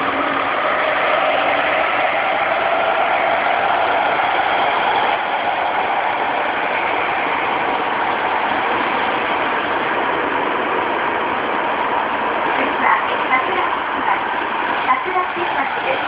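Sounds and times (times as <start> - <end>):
train inverter tone: 0.0 - 16.0
train wheels rumbling on rail: 0.0 - 16.0.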